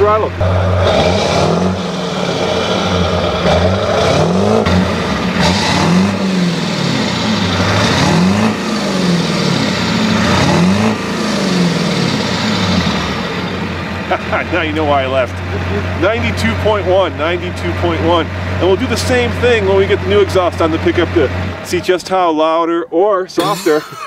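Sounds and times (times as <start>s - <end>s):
diesel engine revving: 0.0s - 22.5s.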